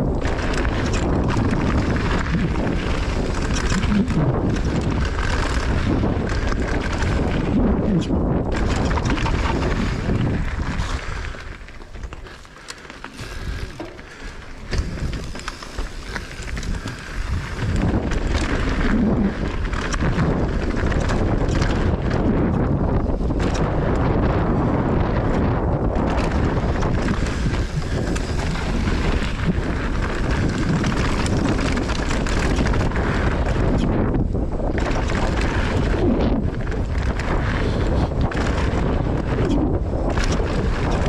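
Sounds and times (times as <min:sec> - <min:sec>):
bike rattling: 0:00.0 - 0:41.0
bike tyre roar: 0:00.0 - 0:41.0
wind buffeting microphone: 0:00.0 - 0:41.0.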